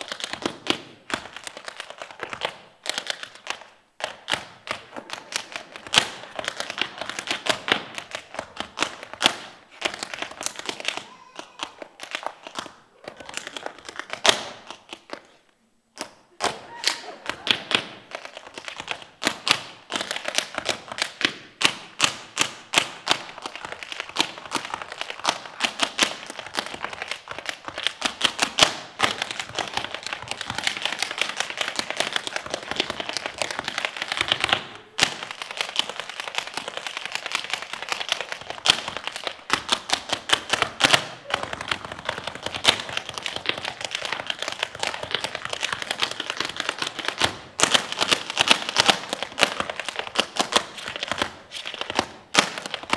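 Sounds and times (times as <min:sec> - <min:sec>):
tap shoes on stage floor: 0:00.0 - 0:15.4, 0:16.0 - 0:52.9.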